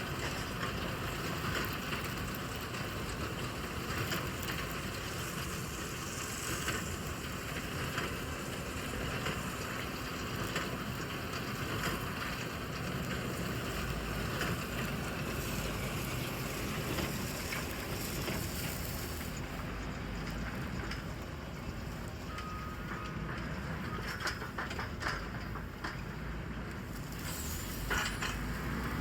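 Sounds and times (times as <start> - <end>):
tractor and baler running: 0.0 - 29.0.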